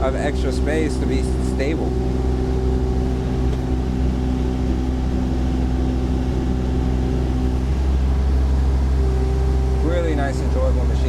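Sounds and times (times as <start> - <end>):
excavator diesel engine running: 0.0 - 11.0
hydraulic hum: 0.0 - 11.0.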